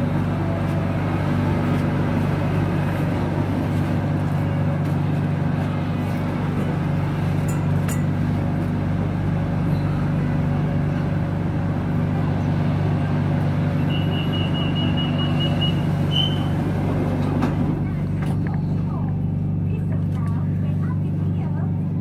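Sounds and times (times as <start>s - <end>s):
skytrain car hum and rumble: 0.0s - 22.0s.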